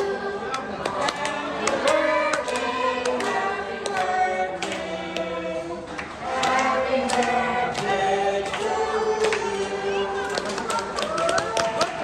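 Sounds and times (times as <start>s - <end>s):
group singing birthday song: 0.0s - 12.0s.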